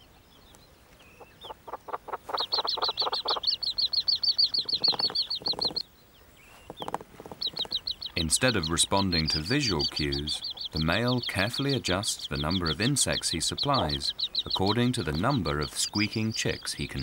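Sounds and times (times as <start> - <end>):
lower rapid bird notes: 0.0 - 17.0
chicks squeaking: 0.4 - 17.0.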